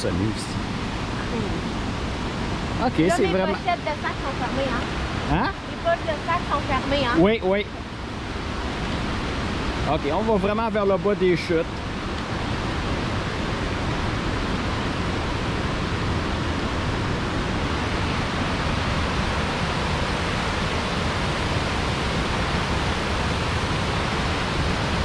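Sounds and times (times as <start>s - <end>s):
waterfall and rapids roaring: 0.0s - 25.0s.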